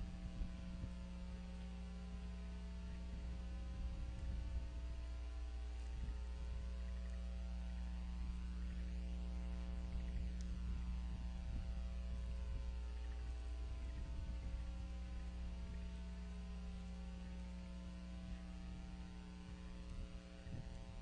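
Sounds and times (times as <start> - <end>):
electrical mains hum: 0.0 - 21.0
faint ticks: 0.0 - 21.0.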